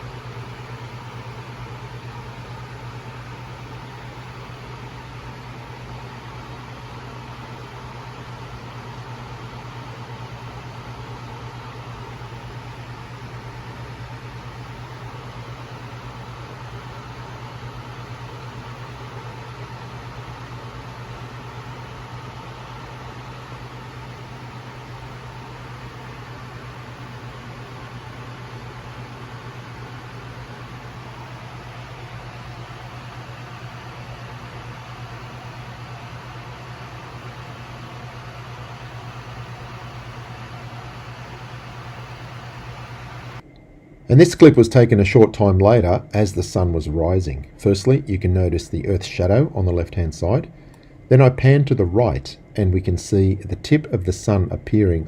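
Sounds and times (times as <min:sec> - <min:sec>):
faint steady whine: 0:00.0 - 0:55.0
low droning hum: 0:00.0 - 0:55.0.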